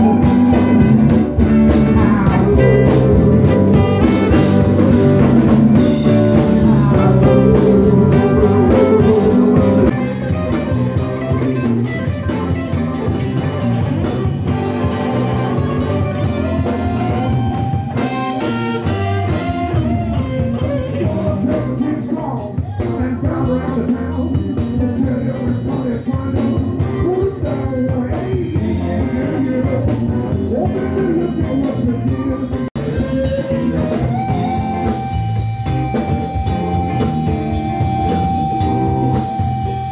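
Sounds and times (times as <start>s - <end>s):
live blues band playing: 0.0s - 39.9s
person singing: 0.0s - 39.9s.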